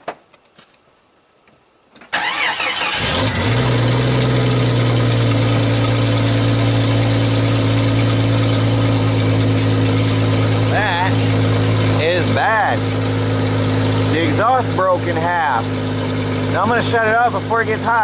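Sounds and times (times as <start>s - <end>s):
car engine starting and idling: 2.1s - 18.0s.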